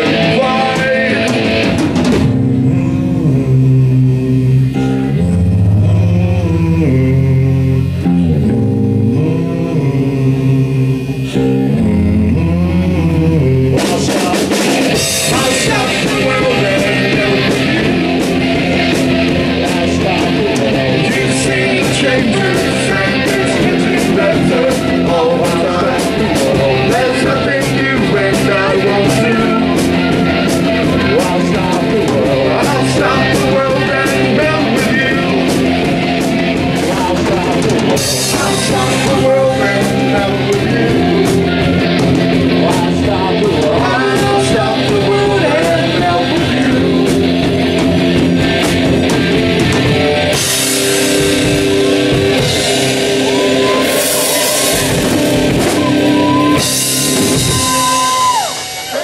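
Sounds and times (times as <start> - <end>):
distorted electric guitars: 0.0 - 59.0
drum kit: 0.0 - 59.0
singer: 0.0 - 59.0.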